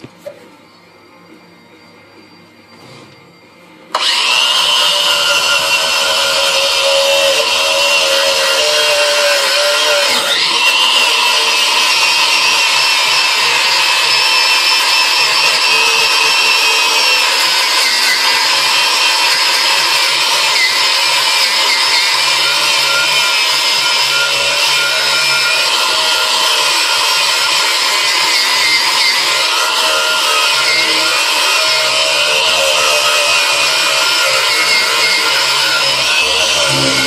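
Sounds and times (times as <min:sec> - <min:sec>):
angle grinder wire brush on steel: 0:03.9 - 0:37.0.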